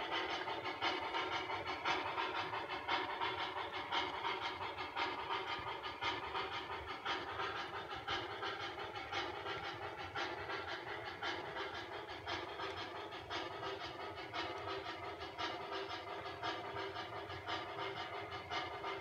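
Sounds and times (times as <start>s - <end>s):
model train steam chuffing: 0.0s - 19.0s
train wheels clicking on track: 0.0s - 19.0s.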